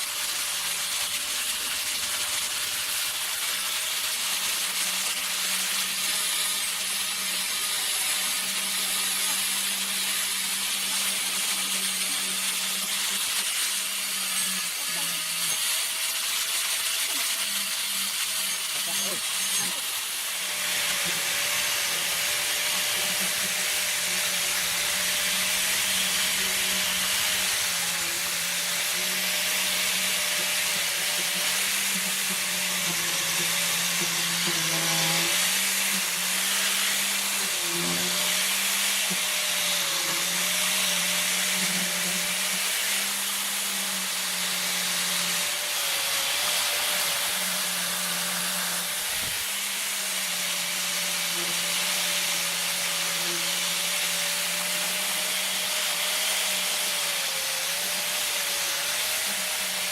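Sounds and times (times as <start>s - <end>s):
power tool motor running: 0.0s - 59.9s.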